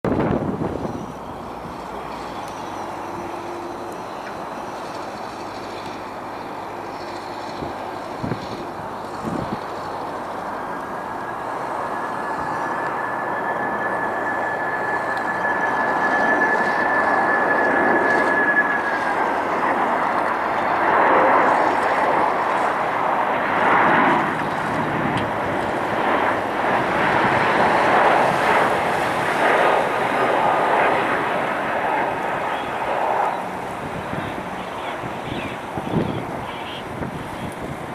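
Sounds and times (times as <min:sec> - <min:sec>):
strong wind: 0:00.0 - 0:37.9
jet engines rushing: 0:00.1 - 0:37.9
thin steady whine: 0:00.1 - 0:37.9.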